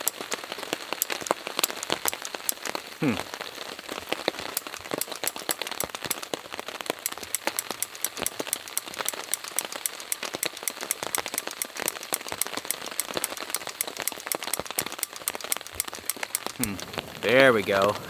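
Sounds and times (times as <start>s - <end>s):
rain falling on a tarp: 0.0s - 18.0s.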